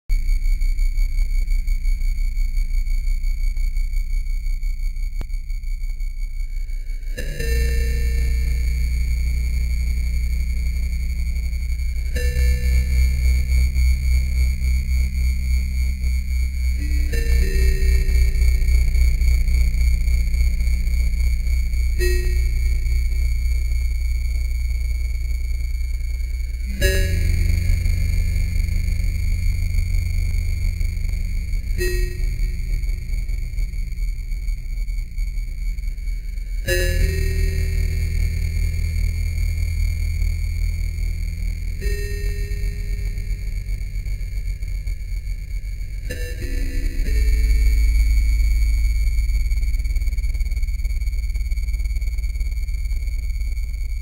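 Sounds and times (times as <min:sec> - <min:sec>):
high-pitched whine tones: 0:00.1 - 0:54.0
low pulsing rumble: 0:00.5 - 0:54.0
loud droning bass: 0:05.9 - 0:54.0.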